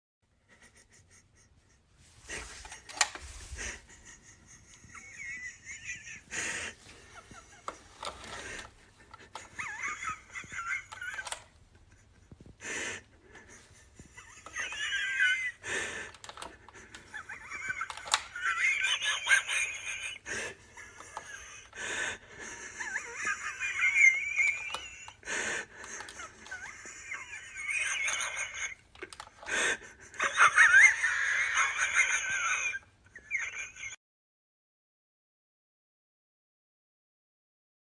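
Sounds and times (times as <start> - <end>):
person wheezing laughter: 0.6 - 34.0.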